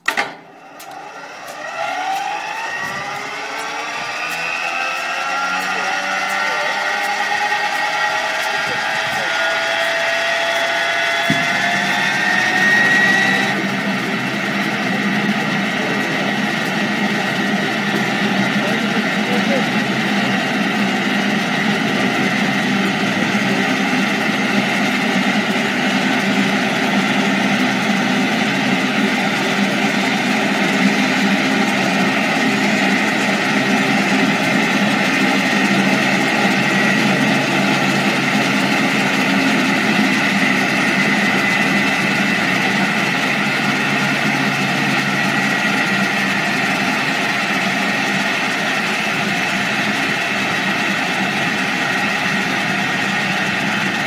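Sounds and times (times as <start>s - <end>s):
jet engine whine and rush: 0.0s - 54.0s.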